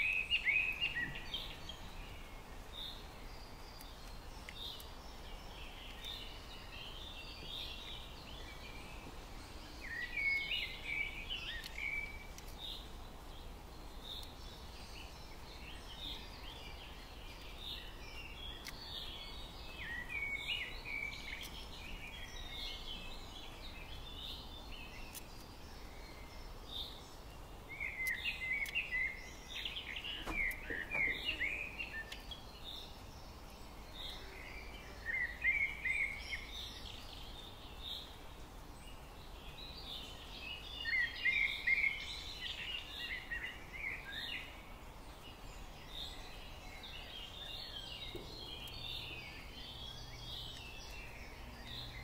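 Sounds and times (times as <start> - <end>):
low background hiss: 0.0 - 52.0
songbirds twittering: 0.0 - 52.0.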